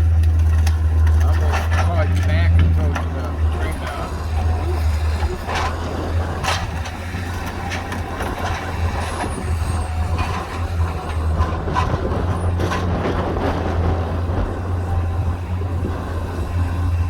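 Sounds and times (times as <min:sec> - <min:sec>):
timbers cracking and breaking: 0:00.0 - 0:14.8
diesel engine running: 0:00.0 - 0:17.0.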